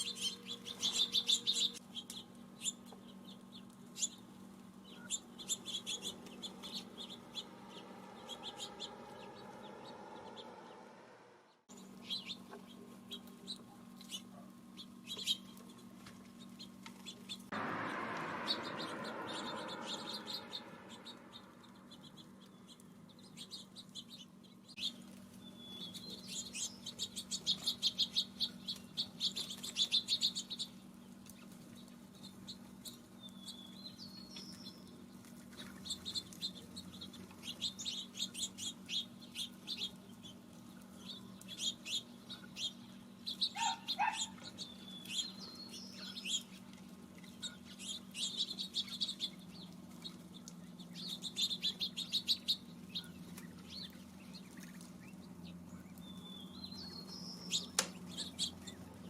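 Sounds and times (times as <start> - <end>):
faint low hum: 0.0 - 59.0
small birds chipping: 0.0 - 59.0.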